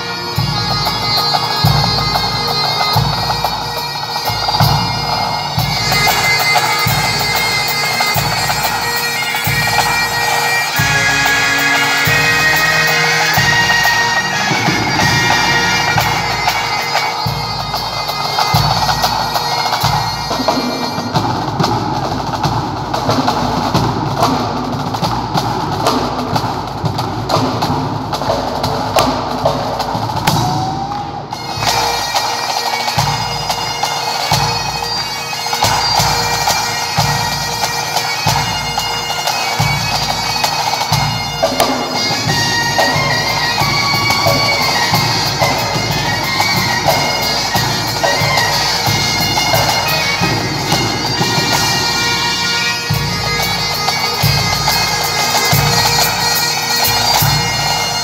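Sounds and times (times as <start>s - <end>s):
bagpipes and bombardes: 0.0s - 58.0s
snare drums: 0.0s - 58.0s.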